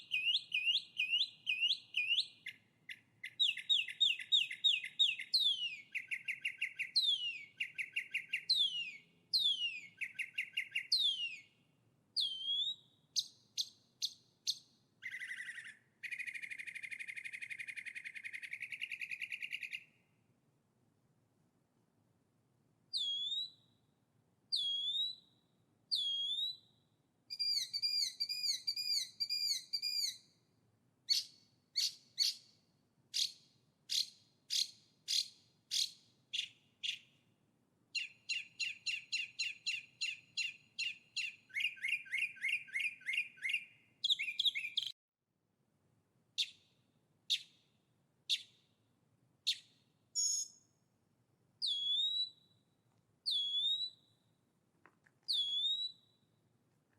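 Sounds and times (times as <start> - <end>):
songbird singing: 0.0 - 20.1, 22.9 - 23.9, 24.5 - 30.5, 31.1 - 37.2, 37.9 - 45.0, 46.4 - 48.8, 49.4 - 50.8, 51.6 - 54.4, 55.2 - 56.4.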